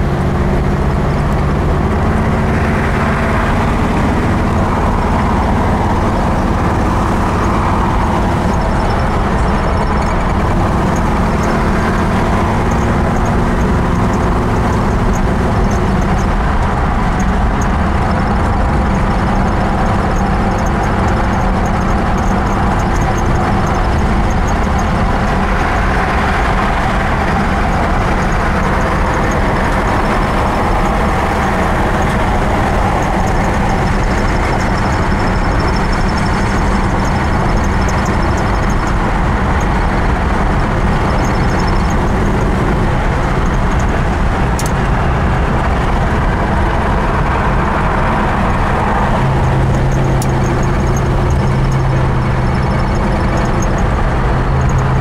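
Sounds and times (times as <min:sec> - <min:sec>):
car engine cruising: 0:00.0 - 0:55.0
tyre and road noise: 0:00.0 - 0:55.0.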